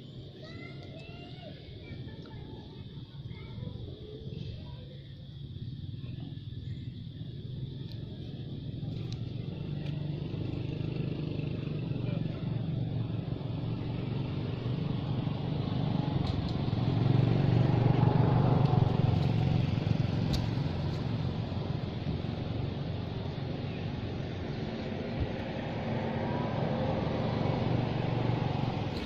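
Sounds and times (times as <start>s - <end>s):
vehicle engine running: 4.3s - 29.0s.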